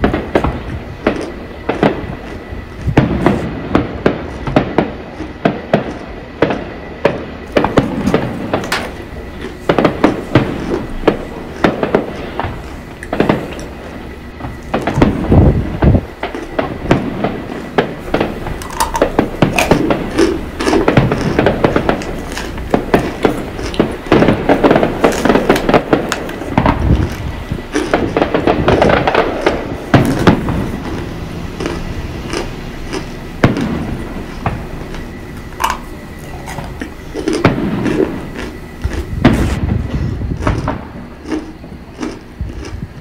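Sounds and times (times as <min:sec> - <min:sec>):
distant fireworks popping and booming: 0:00.0 - 0:42.9
crunching and chewing: 0:00.0 - 0:43.0.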